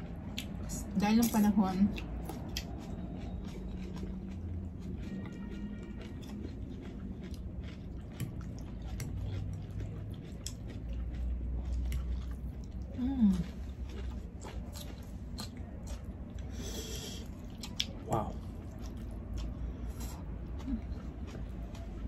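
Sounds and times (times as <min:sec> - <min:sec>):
chewing and mouth sounds: 0:00.0 - 0:22.0.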